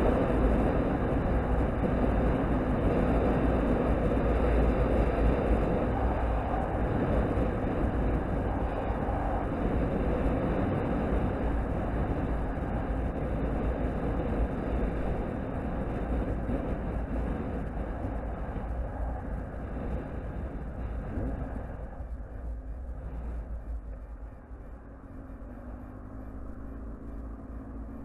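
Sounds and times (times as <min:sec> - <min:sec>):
motorcycle engine: 0:00.0 - 0:28.0
wind rush on microphone: 0:00.0 - 0:28.0.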